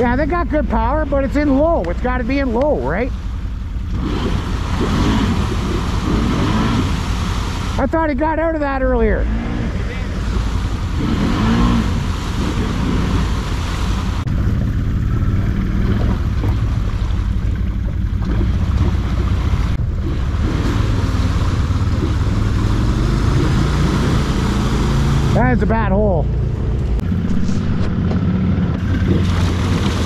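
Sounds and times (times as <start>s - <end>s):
quad engines droning: 0.0s - 30.0s.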